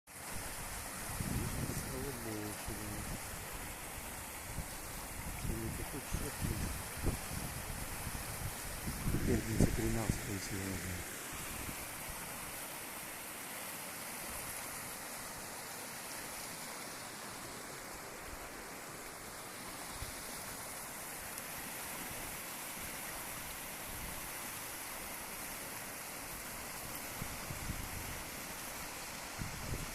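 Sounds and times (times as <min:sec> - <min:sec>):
waterfall rushing: 0:00.1 - 0:27.5.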